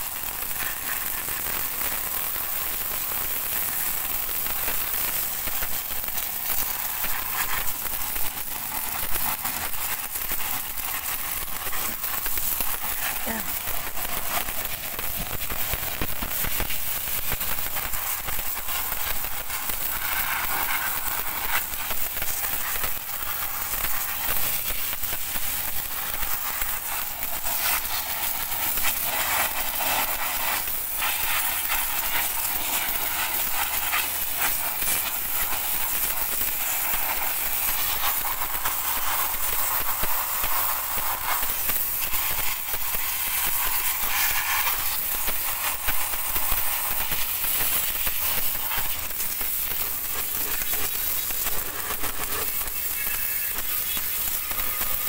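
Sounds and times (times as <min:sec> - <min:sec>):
pressure washer jet hissing: 0:00.0 - 0:55.0.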